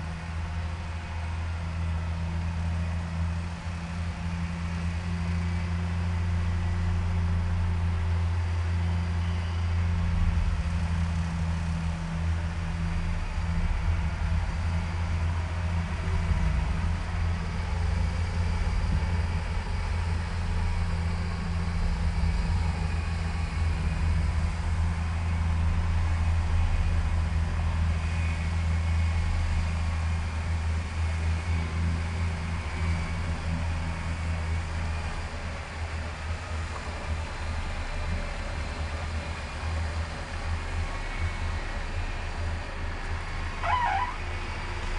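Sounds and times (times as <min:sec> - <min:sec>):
off-road vehicle engine running: 0:00.0 - 0:44.9.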